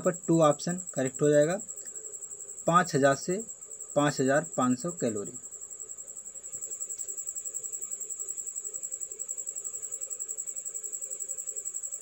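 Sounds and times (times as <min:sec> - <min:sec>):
insect trilling: 0:00.0 - 0:12.0.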